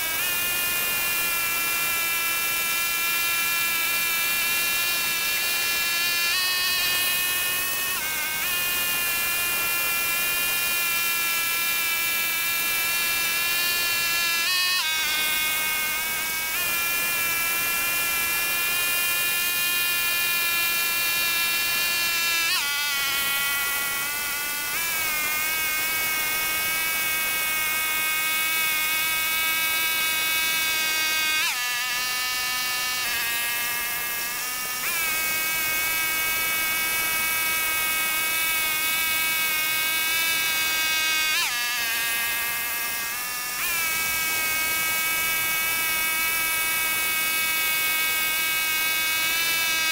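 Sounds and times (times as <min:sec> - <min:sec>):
tractor tiller engine whine: 0:00.0 - 0:49.9.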